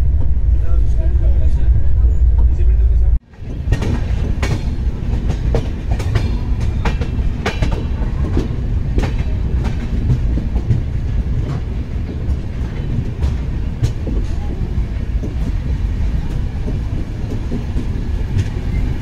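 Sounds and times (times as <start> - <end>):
train rumbling: 0.0 - 19.0
wheels clacking over rail joints: 3.3 - 19.0.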